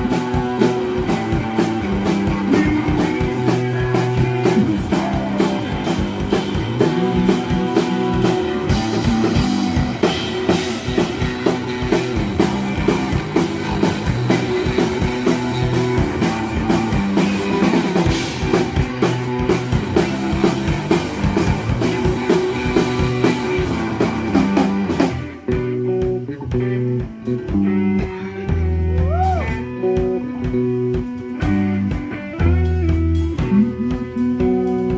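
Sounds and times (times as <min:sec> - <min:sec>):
electric guitar: 0:00.0 - 0:34.9.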